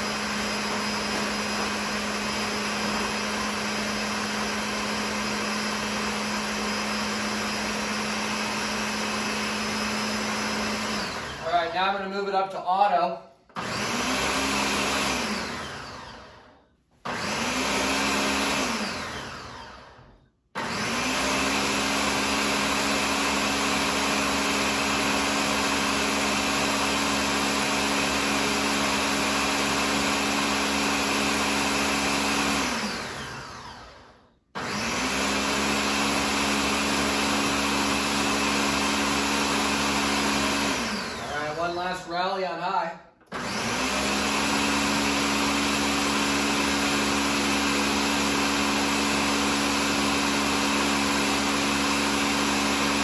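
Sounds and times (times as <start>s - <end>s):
blender running: 0.0s - 12.9s, 13.5s - 53.0s.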